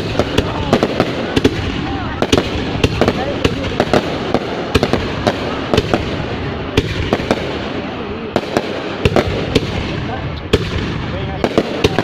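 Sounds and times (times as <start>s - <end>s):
fireworks loud bangs: 0.0s - 12.0s
fireworks rumble of bursts: 0.0s - 12.0s.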